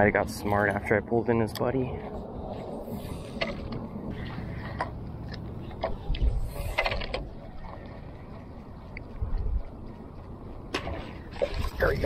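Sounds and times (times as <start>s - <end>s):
low rumbles: 0.0s - 12.0s.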